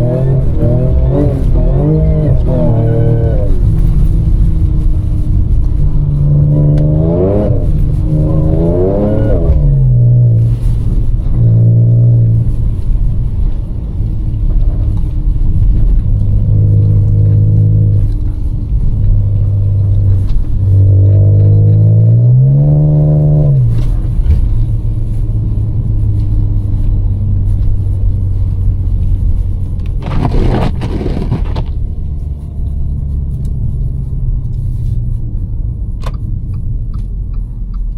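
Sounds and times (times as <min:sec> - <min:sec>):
car engine accelerating hard: 0:00.0 - 0:37.9
low road rumble: 0:00.0 - 0:37.9.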